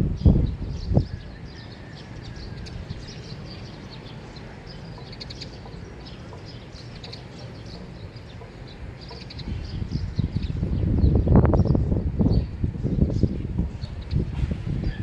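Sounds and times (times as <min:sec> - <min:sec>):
steady low rumble: 0:00.0 - 0:15.0
small birds chirping: 0:00.1 - 0:15.0.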